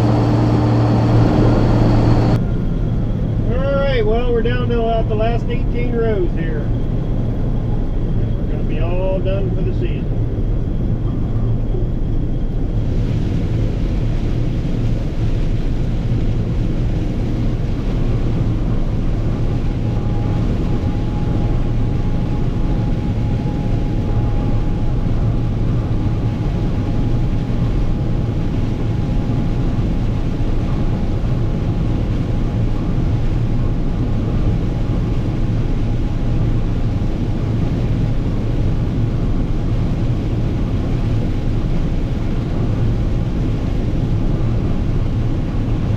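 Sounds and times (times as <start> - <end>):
combine harvester rumbling: 0.0 - 45.9
faint steady whine: 0.0 - 45.9.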